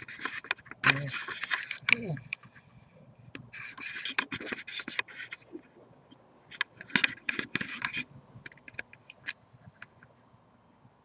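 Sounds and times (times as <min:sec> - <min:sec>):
camera handling scraping: 0:00.0 - 0:05.6, 0:06.5 - 0:09.9.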